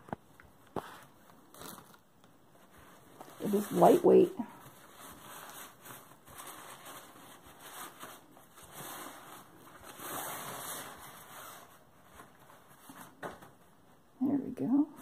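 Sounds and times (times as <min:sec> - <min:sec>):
nylon bag rustling: 0:00.7 - 0:13.5.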